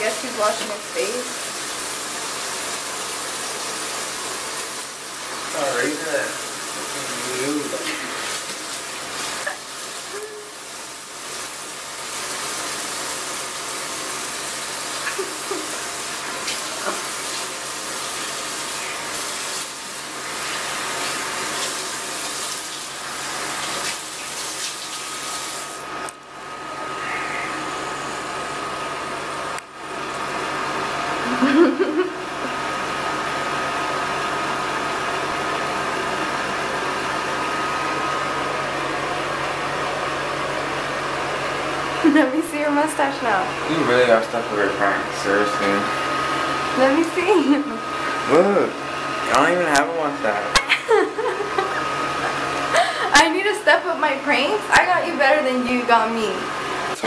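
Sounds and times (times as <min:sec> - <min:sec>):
tap water running: 0:00.0 - 0:26.3, 0:27.0 - 0:57.0
thin steady whine: 0:00.0 - 0:57.0.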